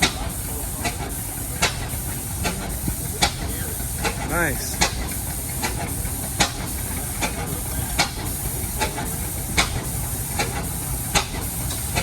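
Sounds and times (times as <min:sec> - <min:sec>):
stationary gas engine running: 0:00.0 - 0:12.0.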